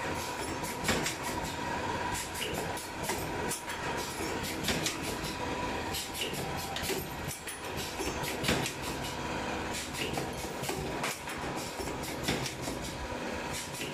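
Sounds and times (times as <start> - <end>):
machines clicking and clanking: 0.0 - 13.9.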